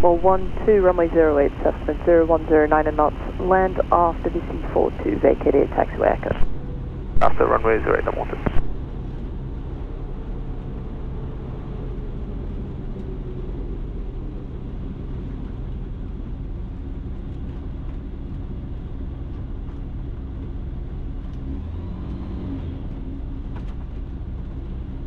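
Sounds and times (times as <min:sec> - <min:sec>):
light aircraft engine droning: 0:00.0 - 0:25.0.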